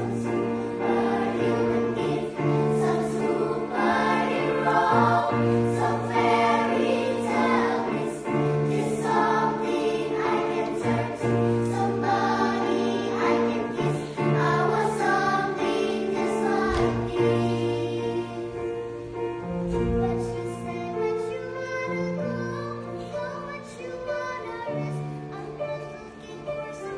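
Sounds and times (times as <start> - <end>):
choir singing in harmony: 0.0 - 26.9.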